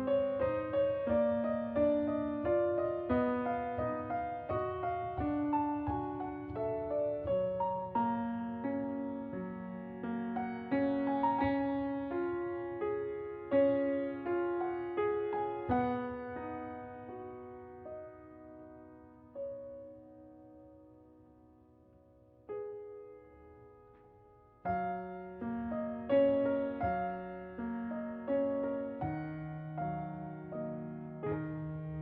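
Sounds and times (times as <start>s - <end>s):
soft solo piano music: 0.0s - 32.0s.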